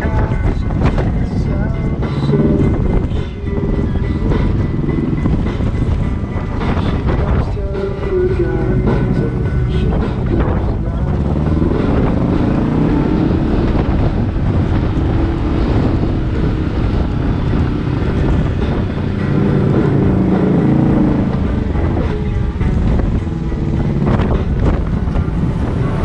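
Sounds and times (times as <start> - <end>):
off-road vehicle engine revving: 0.0 - 26.0
wind buffeting microphone: 0.0 - 26.0.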